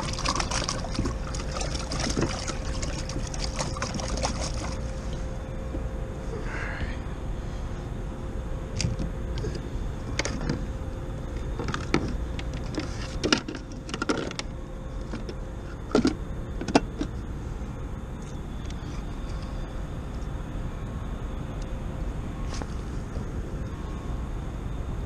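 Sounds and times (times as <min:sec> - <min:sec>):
faint steady hum: 0:00.0 - 0:25.0
steady low rumble: 0:00.0 - 0:25.0.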